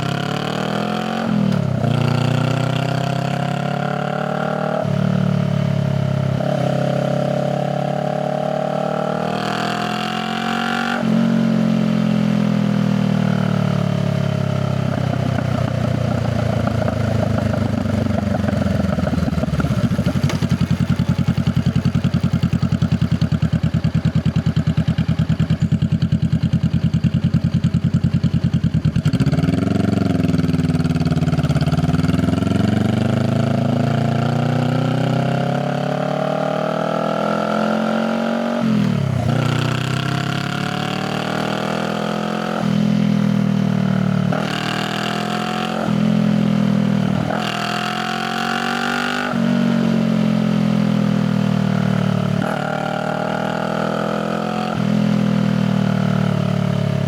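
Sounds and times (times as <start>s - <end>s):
motorcycle engine revving and idling: 0.0s - 57.0s.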